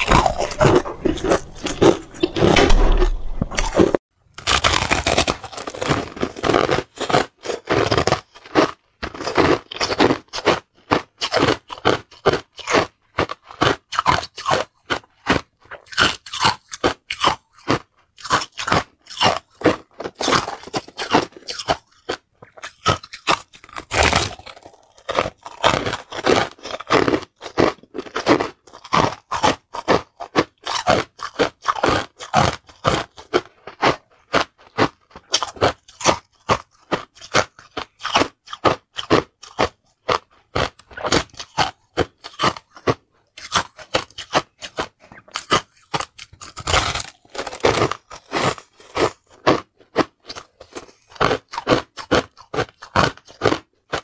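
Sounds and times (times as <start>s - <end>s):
crushed ice being chewed: 0.0s - 54.0s.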